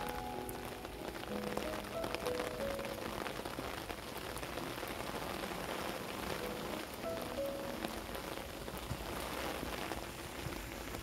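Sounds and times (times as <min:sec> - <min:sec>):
rain falling: 0:00.0 - 0:11.0
raindrops ticking close by: 0:00.0 - 0:11.0
soft background music: 0:00.0 - 0:11.0.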